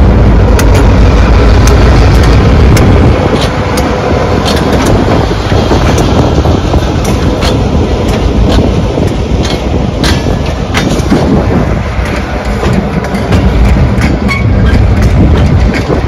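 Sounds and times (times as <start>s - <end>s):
locomotive engine working: 0.0s - 16.0s
wheels clicking over rail joints: 0.0s - 16.0s.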